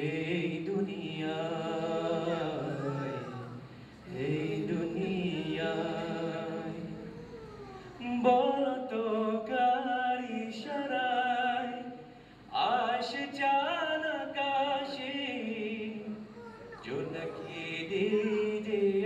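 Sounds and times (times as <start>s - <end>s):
man singing unaccompanied: 0.0s - 7.1s, 8.0s - 19.0s.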